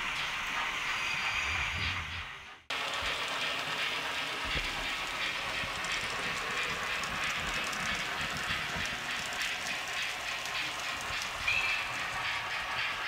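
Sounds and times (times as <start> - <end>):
model train wheels rattling on rails: 0.0 - 13.0.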